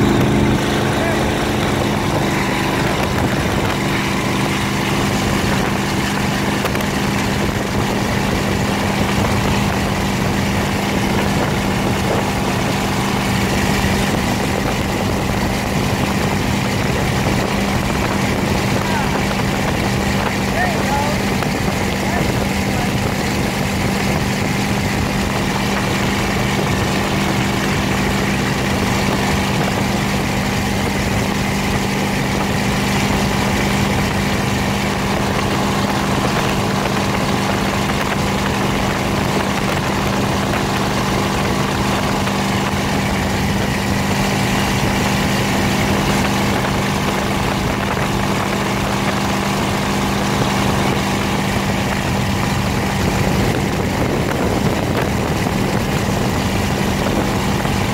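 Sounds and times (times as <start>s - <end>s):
boat engine droning: 0.0s - 57.9s
water rushing: 0.0s - 57.9s.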